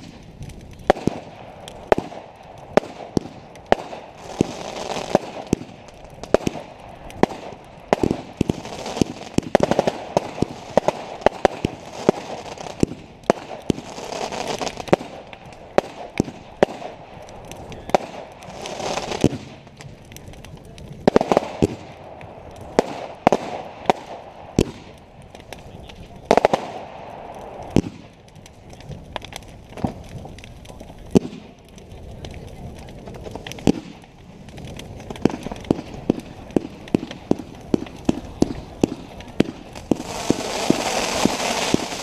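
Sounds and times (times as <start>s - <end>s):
fireworks bangs and pops: 0.0s - 42.0s
fireworks crackling hiss: 0.0s - 42.0s.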